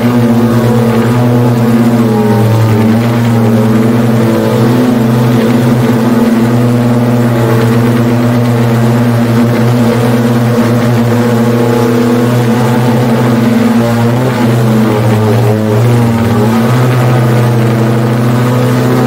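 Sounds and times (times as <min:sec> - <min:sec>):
electric motors and propellers humming: 0:00.0 - 0:19.0.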